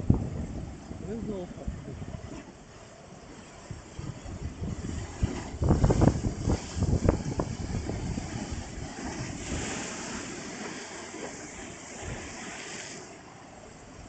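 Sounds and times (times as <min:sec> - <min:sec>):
wind buffeting microphone: 0:00.0 - 0:12.5
surf washing onto beach: 0:00.0 - 0:14.0.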